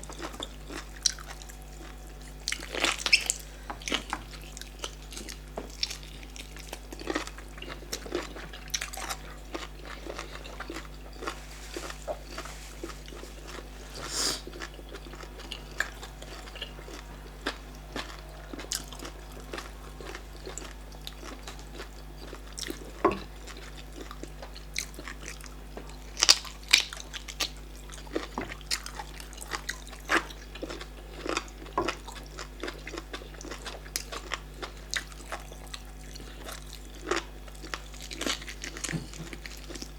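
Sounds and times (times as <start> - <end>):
steady low hum: 0.0 - 39.9
wet chewing: 0.0 - 39.9.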